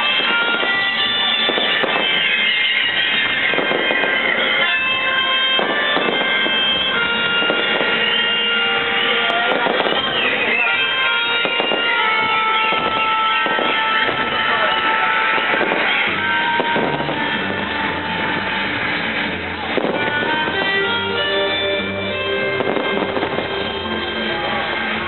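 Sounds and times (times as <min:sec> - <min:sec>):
fireworks bursting: 0:00.0 - 0:25.0
tango music: 0:00.0 - 0:25.0.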